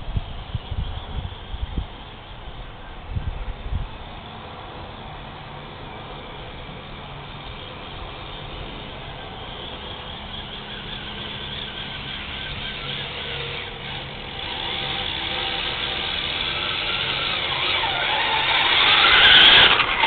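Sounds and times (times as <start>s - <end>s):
rc truck motors whining: 0.0s - 20.0s.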